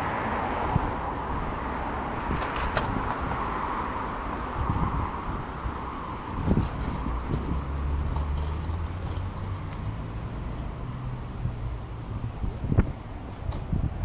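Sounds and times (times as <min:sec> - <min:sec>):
engine humming low: 0:00.0 - 0:14.0
passing vehicle tyre noise: 0:00.0 - 0:14.0.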